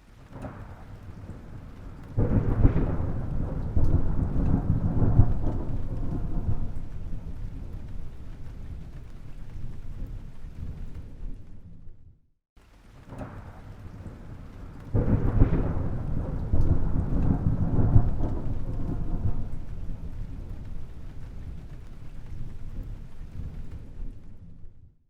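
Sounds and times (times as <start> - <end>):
thunder crack and rumble: 0.0 - 12.2, 12.9 - 25.0.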